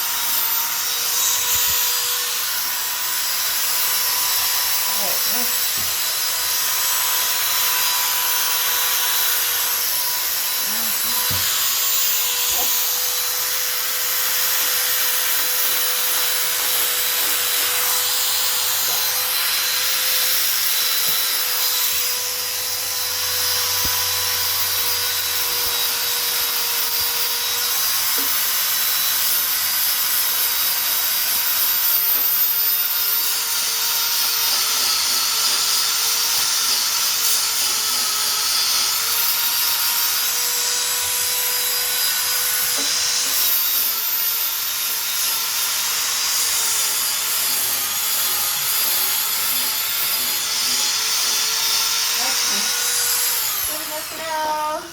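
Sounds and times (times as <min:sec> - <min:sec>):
power sander motor whine: 0:00.0 - 0:28.3, 0:34.4 - 0:54.9.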